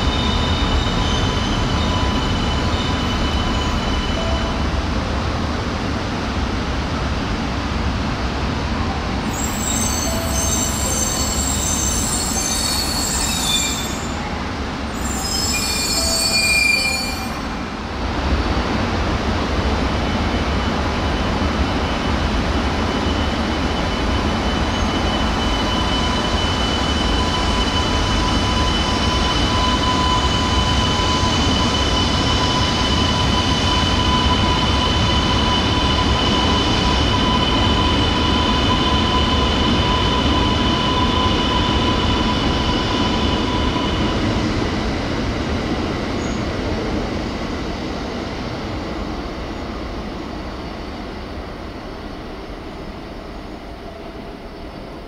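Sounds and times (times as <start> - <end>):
train high whine: 0.0 - 55.0
train rumble: 0.0 - 55.0.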